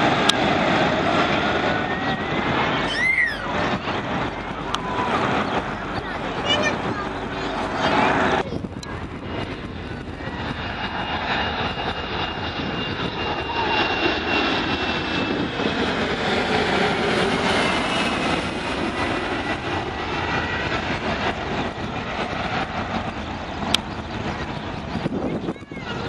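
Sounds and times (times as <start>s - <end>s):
jet engines passing overhead: 0.0s - 26.0s.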